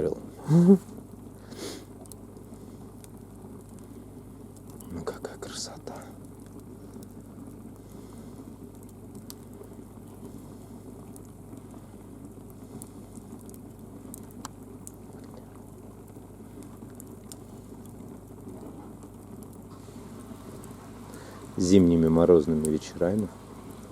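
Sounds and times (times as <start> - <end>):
burning logs crackling and popping: 0.0 - 23.9
flames rushing: 0.0 - 23.9.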